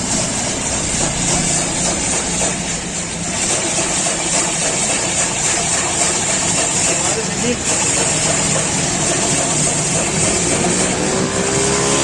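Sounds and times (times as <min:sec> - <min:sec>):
ice shaving machine grinding: 0:00.0 - 0:12.0.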